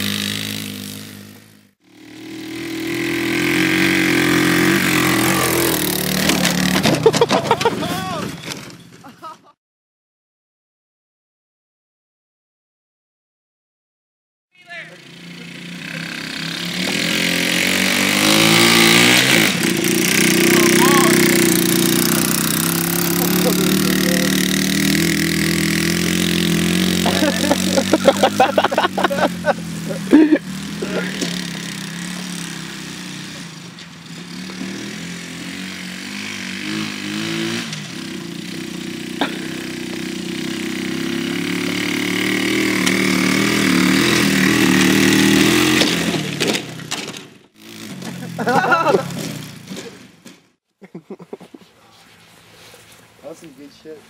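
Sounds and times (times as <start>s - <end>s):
small engine revving: 0.0s - 8.8s, 14.8s - 50.5s.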